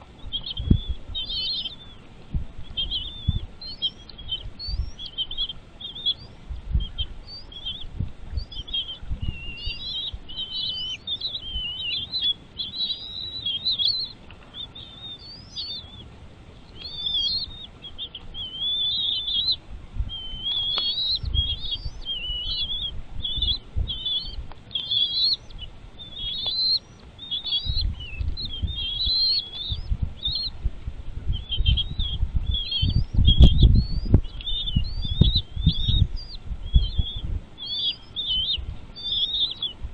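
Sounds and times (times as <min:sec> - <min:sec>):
birds chirping: 0:00.0 - 0:39.9
low rumbling noise: 0:00.0 - 0:39.9.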